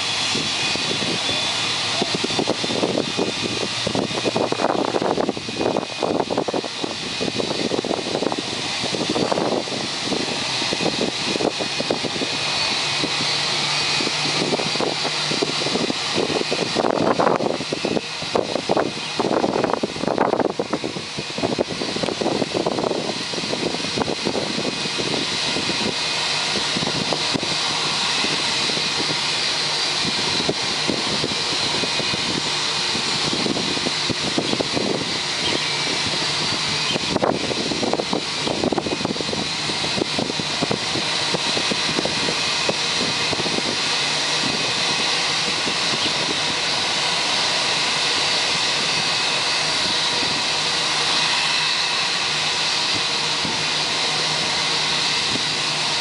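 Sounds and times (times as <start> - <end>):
jet turbine whine: 0.0 - 56.0.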